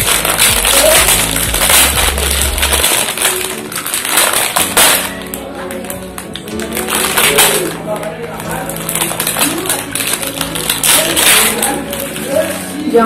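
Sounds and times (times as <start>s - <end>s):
crackers being crushed: 0.0s - 12.8s
background music: 0.0s - 13.0s
plastic bag crinkling: 0.0s - 13.0s.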